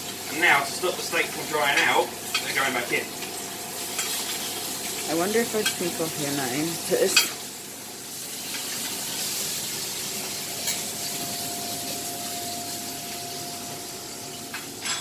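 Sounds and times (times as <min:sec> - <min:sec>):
steak sizzling in a frying pan: 0:00.0 - 0:15.0.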